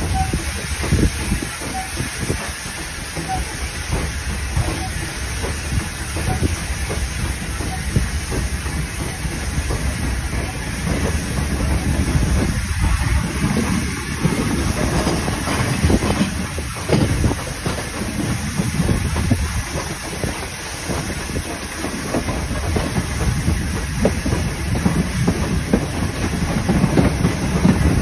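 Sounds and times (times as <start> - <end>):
hiss of steam: 0.0 - 28.0
rumble of carriage wheels: 0.0 - 28.0.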